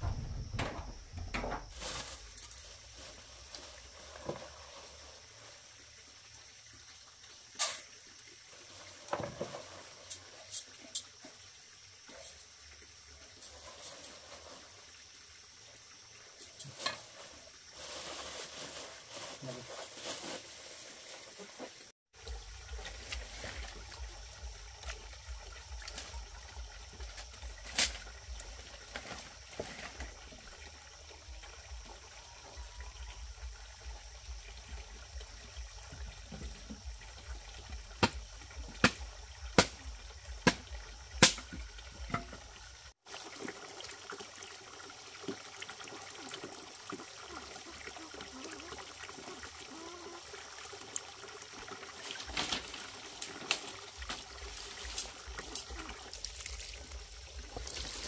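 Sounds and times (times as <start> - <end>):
water trickling and pouring: 1.8 - 58.0.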